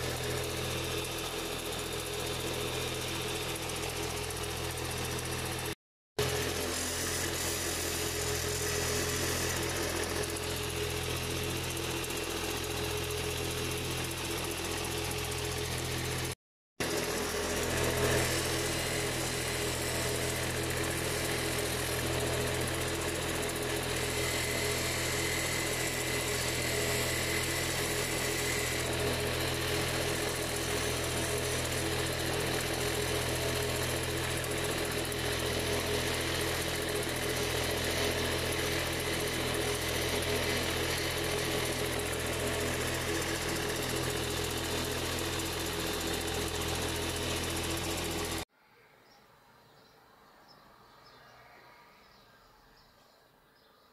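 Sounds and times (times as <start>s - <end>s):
grinding machine motor humming: 0.0s - 48.4s.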